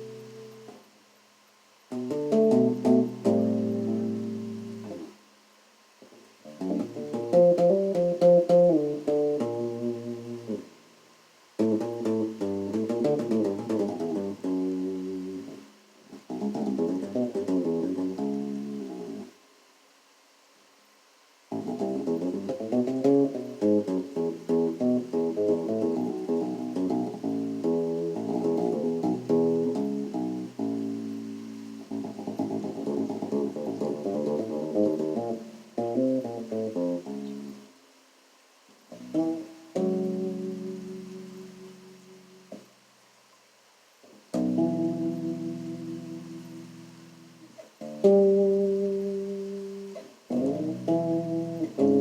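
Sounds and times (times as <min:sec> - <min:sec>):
bass guitar melody: 0:00.0 - 0:00.7, 0:01.9 - 0:05.1, 0:06.5 - 0:10.7, 0:11.6 - 0:19.3, 0:21.5 - 0:37.7, 0:38.9 - 0:42.6, 0:44.3 - 0:52.0.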